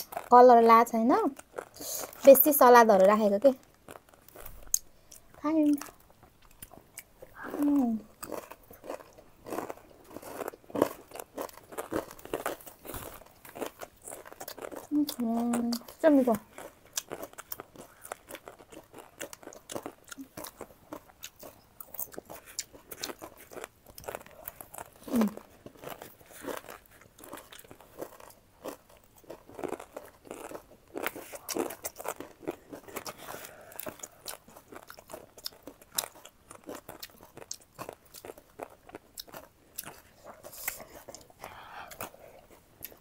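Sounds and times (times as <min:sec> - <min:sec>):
crunchy chewing: 0:00.0 - 0:43.0.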